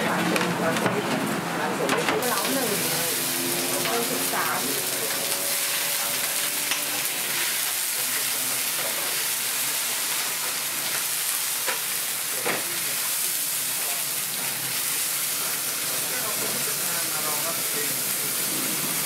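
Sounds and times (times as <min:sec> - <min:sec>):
food sizzling in hot oil: 0:02.2 - 0:19.0.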